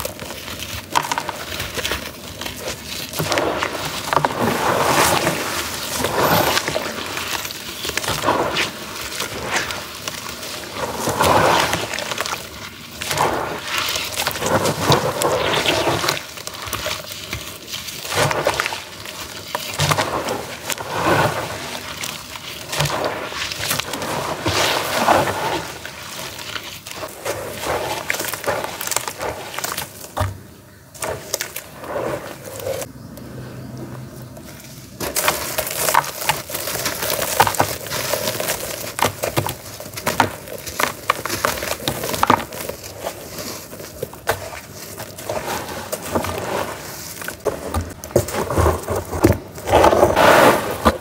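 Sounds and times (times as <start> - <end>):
hands sloshing wet slurry: 0.0 - 32.9, 34.6 - 51.0.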